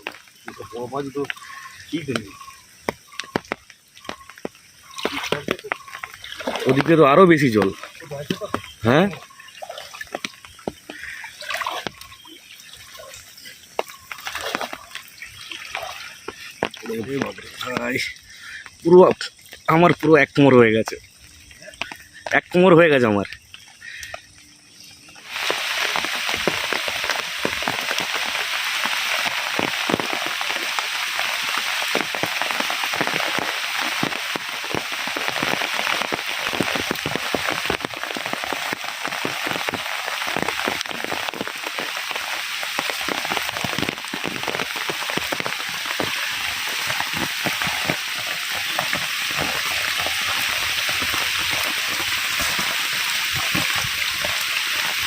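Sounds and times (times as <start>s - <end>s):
heavy rain: 0.0s - 24.3s, 25.2s - 55.0s.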